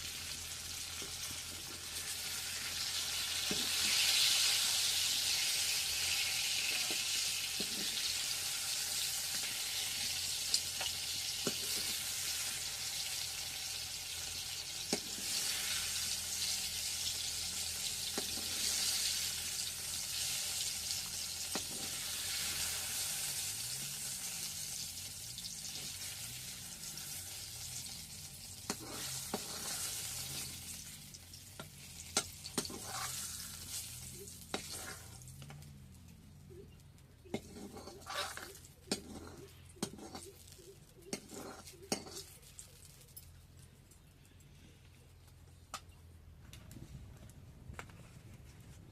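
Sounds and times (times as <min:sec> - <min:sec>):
food sizzling in oil: 0:00.0 - 0:35.4, 0:37.3 - 0:40.3, 0:41.1 - 0:42.4.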